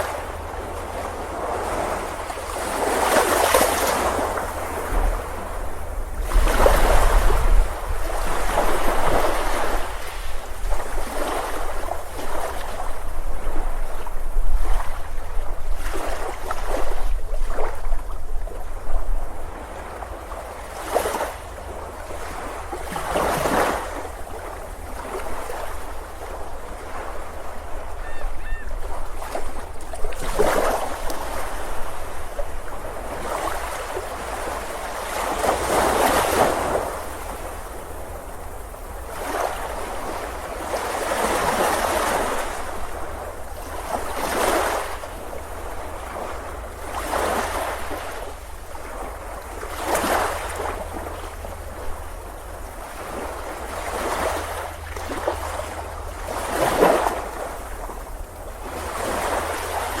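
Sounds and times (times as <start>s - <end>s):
sea waves breaking on beach: 0.0s - 60.0s.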